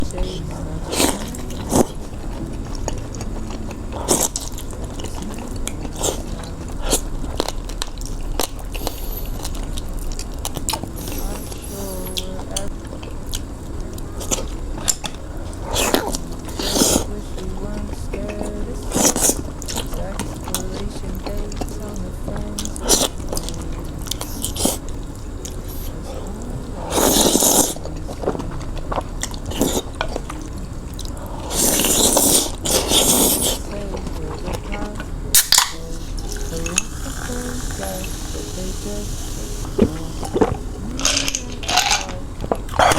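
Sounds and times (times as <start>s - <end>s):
person chewing crunchy food: 0.8s - 13.5s, 14.2s - 17.1s, 22.6s - 42.9s.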